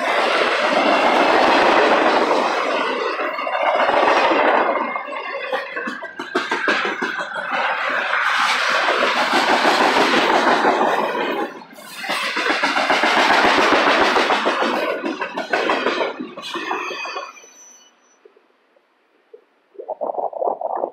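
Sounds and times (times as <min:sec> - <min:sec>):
wheels clicking over rail joints: 0:00.0 - 0:17.5
train wheels on rails: 0:00.0 - 0:18.4.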